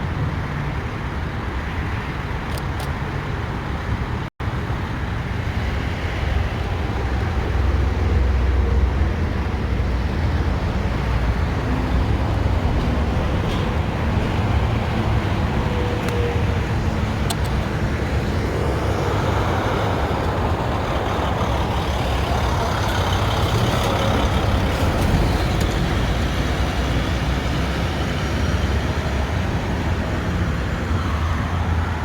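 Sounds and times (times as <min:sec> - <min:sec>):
motor vehicle rumble: 0:00.0 - 0:32.0
road noise: 0:00.0 - 0:32.0.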